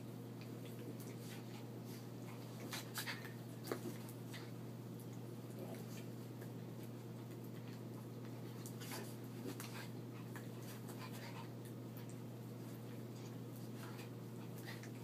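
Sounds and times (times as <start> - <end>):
steady low hum: 0.0 - 15.0
dogs scuffling on carpet: 0.8 - 15.0.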